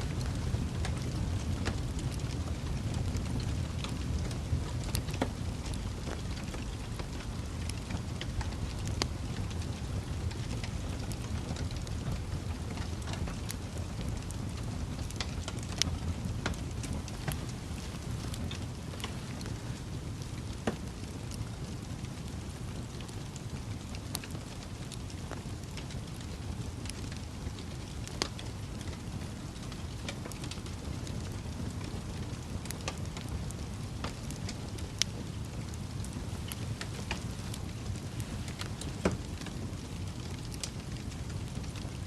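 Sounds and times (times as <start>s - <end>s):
fire flame rushing: 0.0s - 42.0s
logs crackling and popping: 0.0s - 42.0s.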